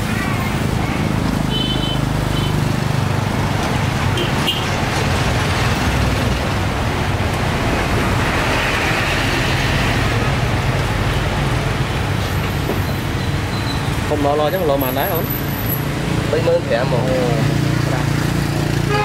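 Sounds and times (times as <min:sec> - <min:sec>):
road traffic engine rumble: 0:00.0 - 0:19.0
street hubbub: 0:00.0 - 0:19.0.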